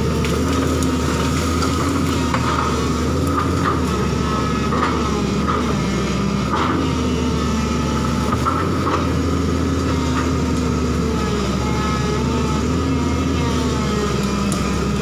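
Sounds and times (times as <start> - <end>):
excavator diesel engine running: 0.0 - 15.0
hydraulic whine: 0.0 - 15.0.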